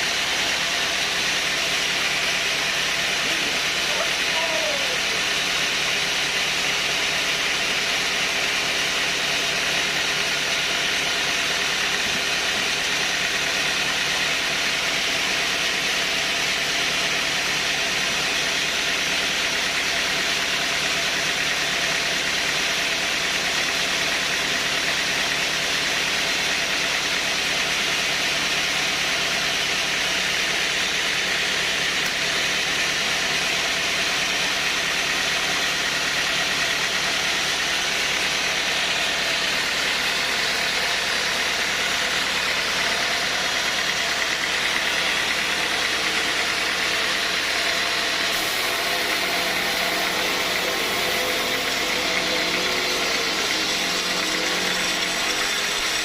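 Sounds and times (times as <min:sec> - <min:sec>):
sawmill machinery drone with whine: 0:00.0 - 0:56.0.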